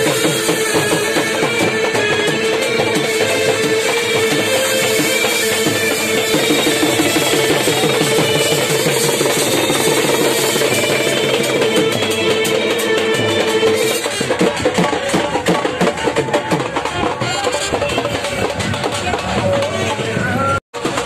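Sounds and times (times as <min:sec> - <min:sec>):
loud dance music with drums: 0:00.0 - 0:21.0.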